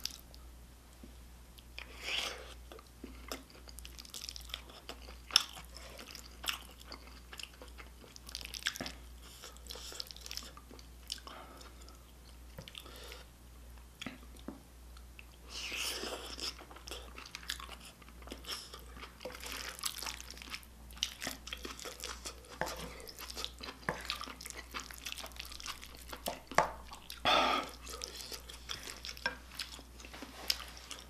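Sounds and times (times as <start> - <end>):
chewing and wet mouth sounds: 0.0 - 0.4, 1.6 - 13.3, 14.0 - 31.0.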